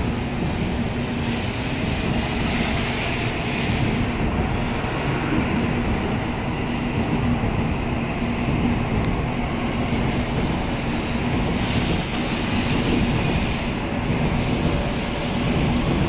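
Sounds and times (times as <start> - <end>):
train wheels rushing rumble: 0.0 - 16.0.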